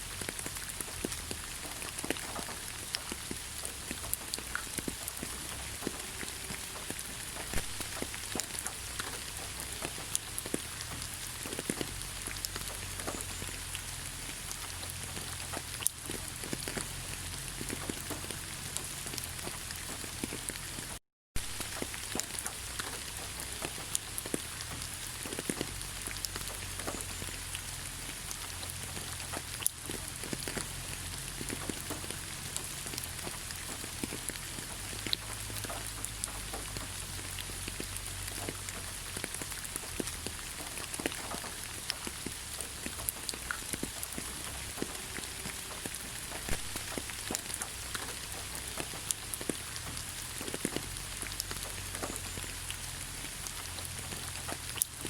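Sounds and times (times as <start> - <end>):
raindrops ticking: 0.0 - 55.0
steady rain: 0.0 - 55.0.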